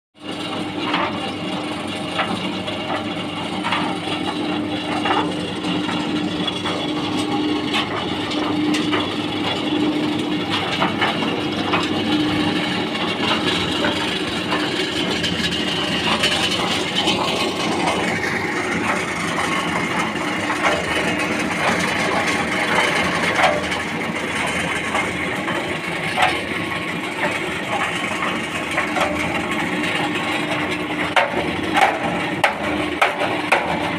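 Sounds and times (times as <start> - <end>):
concrete mixer motor hum: 0.2 - 33.9
mixer clattering and knocking: 0.2 - 33.9.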